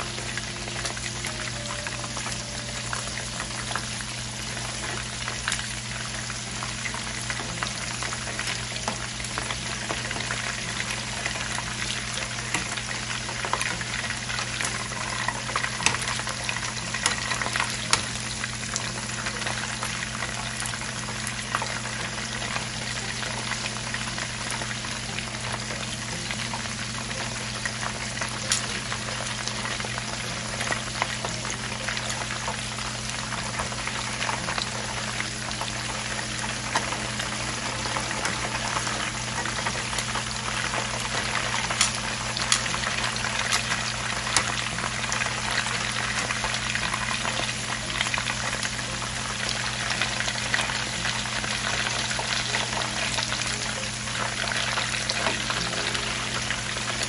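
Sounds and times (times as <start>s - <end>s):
shrimp frying in hot oil: 0.0s - 57.0s.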